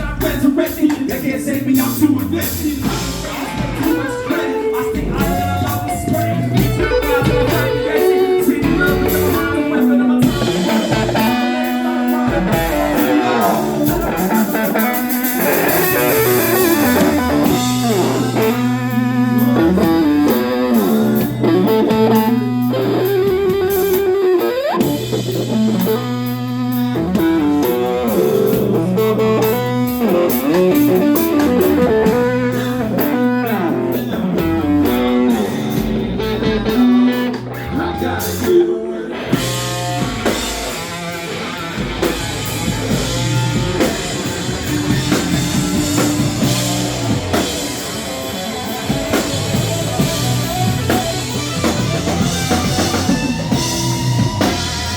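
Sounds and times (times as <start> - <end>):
lead guitar: 0.0 - 54.9
live band playing blues rock: 0.0 - 54.9.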